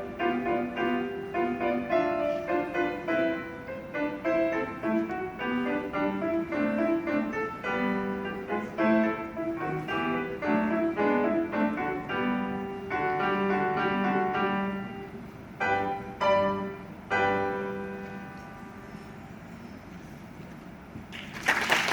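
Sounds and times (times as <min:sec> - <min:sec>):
solo piano chords: 0:00.0 - 0:20.0.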